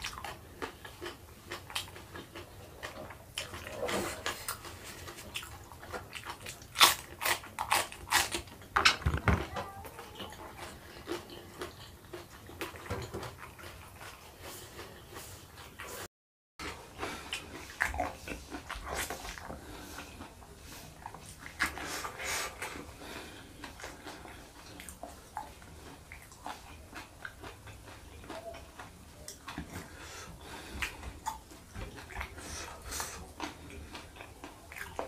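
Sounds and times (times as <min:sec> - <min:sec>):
person chewing with mouth open: 0:00.0 - 0:09.2, 0:10.0 - 0:35.0.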